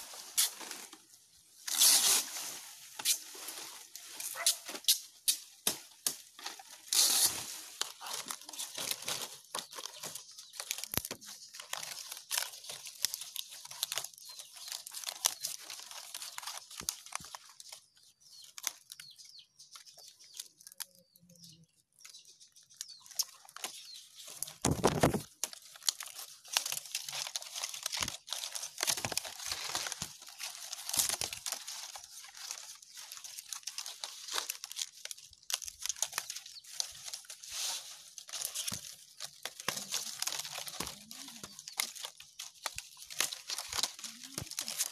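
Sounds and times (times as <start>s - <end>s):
palm leaves rustling and crackling: 0.0s - 44.9s.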